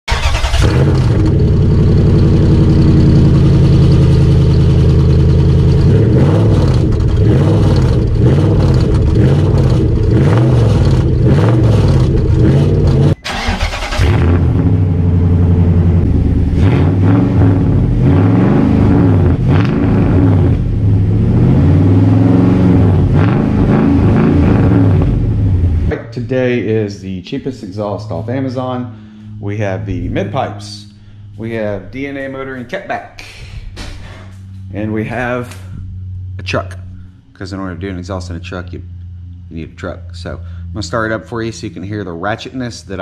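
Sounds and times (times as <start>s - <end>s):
loud truck exhaust revving: 0.1s - 26.0s, 27.7s - 32.8s, 33.6s - 43.0s.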